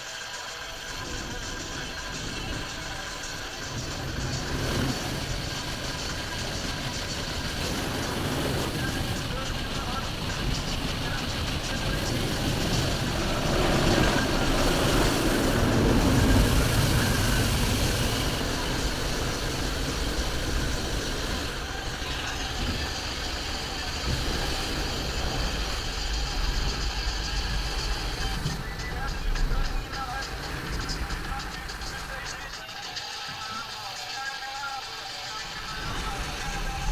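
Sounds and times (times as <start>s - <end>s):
broad hiss: 0.0s - 36.9s
engine idling: 0.0s - 36.9s.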